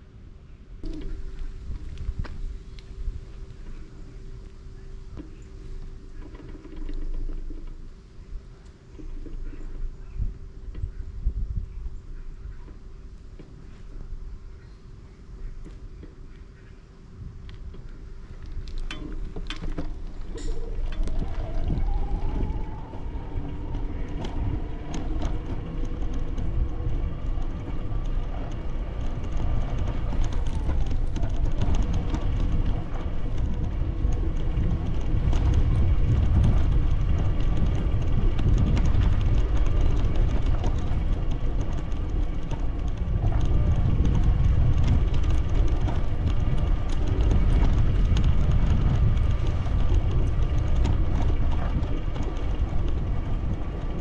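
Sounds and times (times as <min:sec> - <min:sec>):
wind rumble on microphone: 0:00.0 - 0:54.0
small rattles and clicks: 0:00.8 - 0:11.0, 0:17.4 - 0:54.0.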